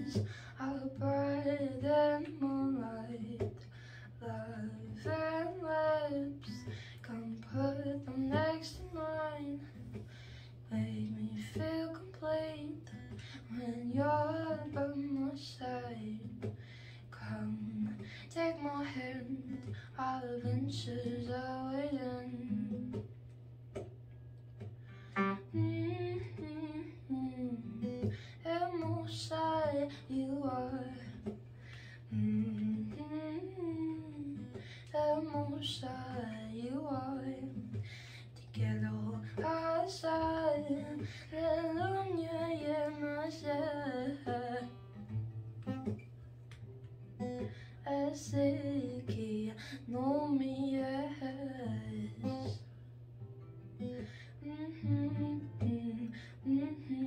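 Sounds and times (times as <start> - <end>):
woman singing: 0.0 - 23.1, 25.1 - 46.0, 47.2 - 52.7, 53.8 - 57.0
acoustic guitar: 0.0 - 57.0.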